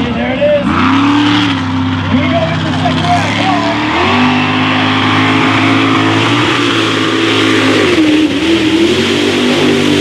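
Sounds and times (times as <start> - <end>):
truck churning through mud: 0.0 - 10.0
truck engine revving: 0.0 - 10.0.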